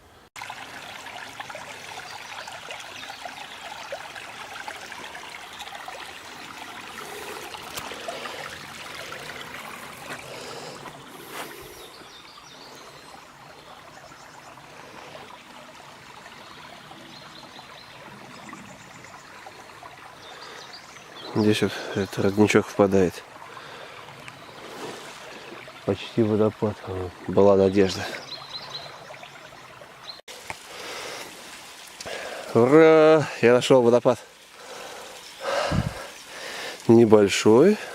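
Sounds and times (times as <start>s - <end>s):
small stream trickling: 0.0s - 37.9s.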